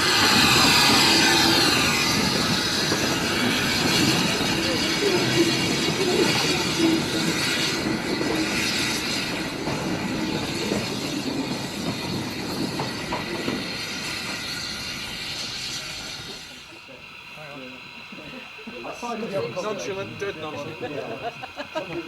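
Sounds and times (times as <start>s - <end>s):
steam train wheels on rails: 0.0s - 22.0s.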